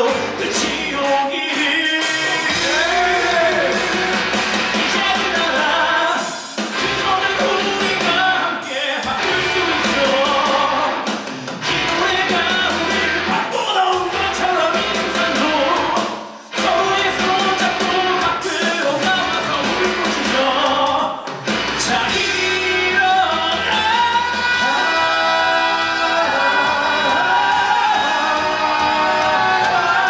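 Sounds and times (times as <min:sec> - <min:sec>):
live rock band with singers: 0:00.0 - 0:30.0.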